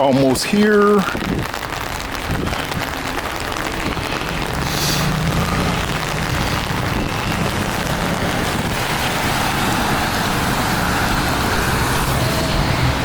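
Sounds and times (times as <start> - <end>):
low hum of traffic: 0.0 - 13.0
steady rain falling: 0.0 - 13.0.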